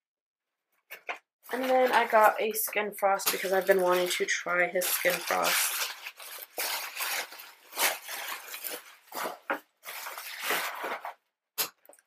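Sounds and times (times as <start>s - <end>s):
packaging rustling and crinkling: 1.5s - 11.2s.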